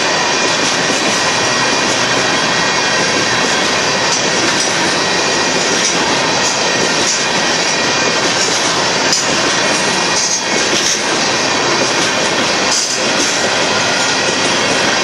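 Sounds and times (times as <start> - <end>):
freight cars clanking: 0.0 - 15.0
steel wheels running over rails: 0.0 - 15.0.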